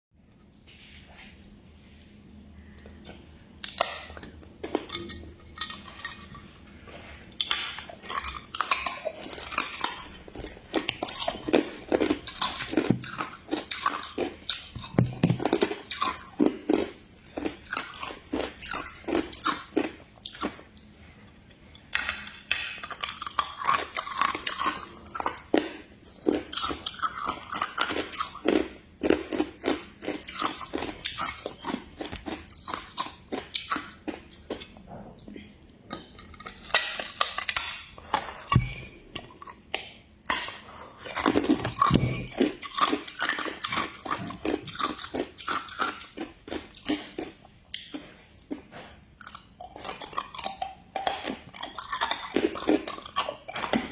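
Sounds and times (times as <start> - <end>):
ice crunching being chewed: 2.8 - 34.9, 35.9 - 53.9.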